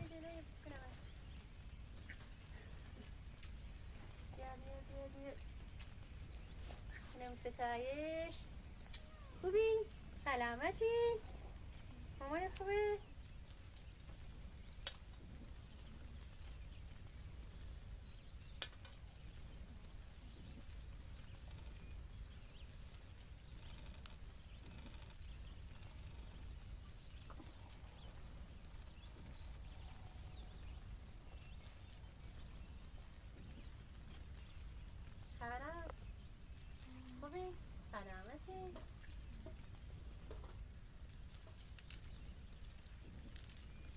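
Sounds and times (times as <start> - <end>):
faint bird chirps: 0.0 - 3.2, 4.3 - 43.9
low steady rumble: 0.0 - 43.9.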